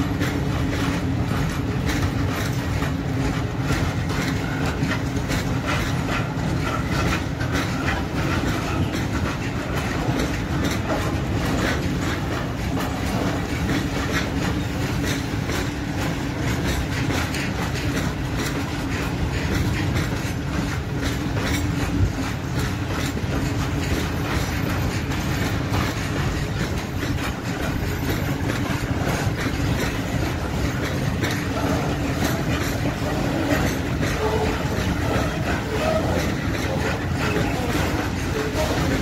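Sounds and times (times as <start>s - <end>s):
train wheels clattering over rail joints: 0.0s - 39.0s.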